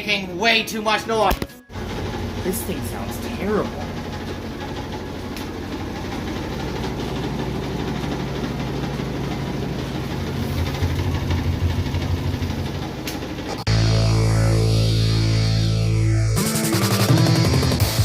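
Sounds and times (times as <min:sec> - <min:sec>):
washing machine drone: 0:00.0 - 0:18.0
rhythmic throbbing vibration: 0:00.1 - 0:18.0.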